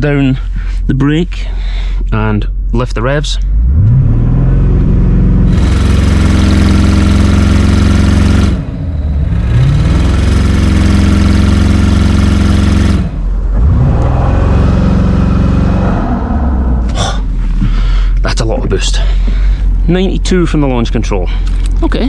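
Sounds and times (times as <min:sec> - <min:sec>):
car engine held at rev limit: 0:03.4 - 0:21.2.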